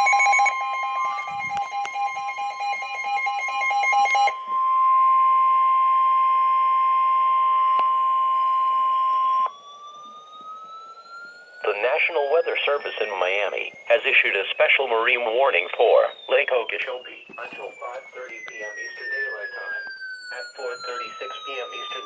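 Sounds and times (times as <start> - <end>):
steady high alarm tone: 0.0 - 22.0.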